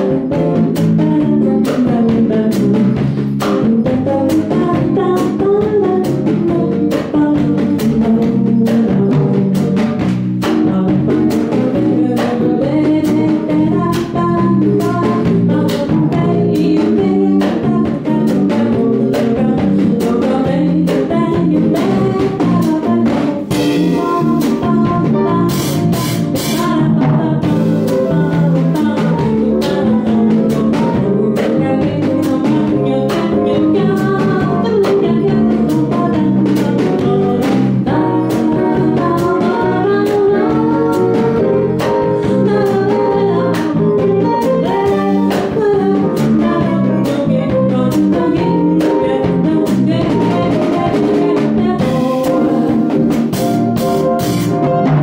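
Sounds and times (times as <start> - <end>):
woman singing: 0.0 - 53.4
drum kit beat: 0.0 - 55.0
electric bass: 0.0 - 55.0.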